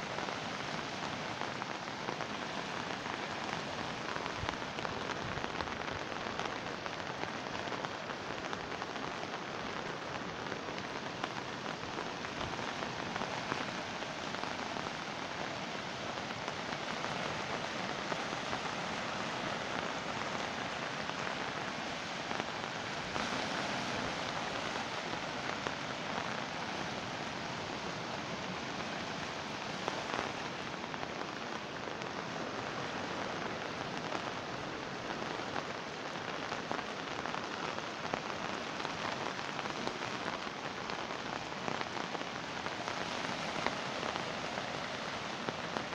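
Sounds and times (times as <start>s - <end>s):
flooded river rushing: 0.0s - 45.9s.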